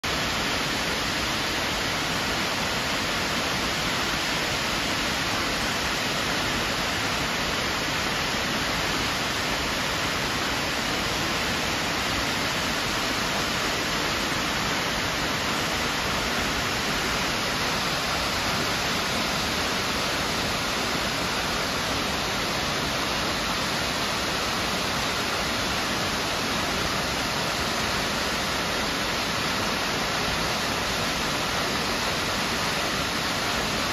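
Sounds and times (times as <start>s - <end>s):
waterfall roaring: 0.0s - 33.9s.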